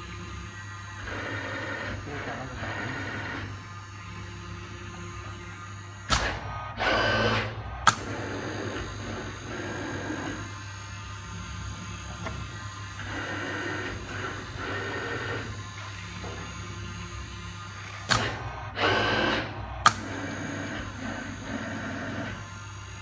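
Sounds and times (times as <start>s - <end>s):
pouring machine humming and whirring: 0.0s - 23.0s.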